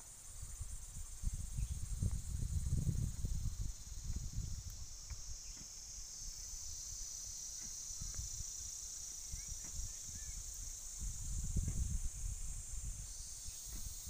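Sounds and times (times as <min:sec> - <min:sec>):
high-pitched insect chorus: 0:00.0 - 0:14.0
wind buffeting microphone: 0:00.3 - 0:05.6, 0:08.0 - 0:14.0.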